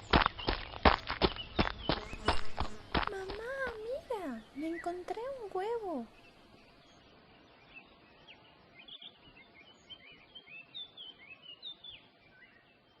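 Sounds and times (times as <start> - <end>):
faint birdsong chirps and whistles: 0.0 - 13.0
faint background hiss: 1.8 - 13.0.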